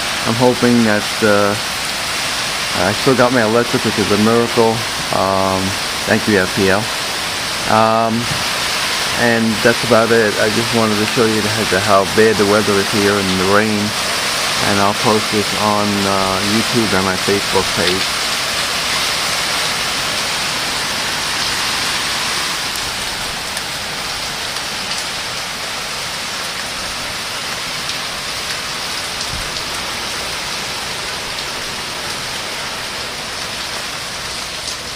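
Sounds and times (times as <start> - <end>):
heavy rain pouring and drumming: 0.0 - 34.9.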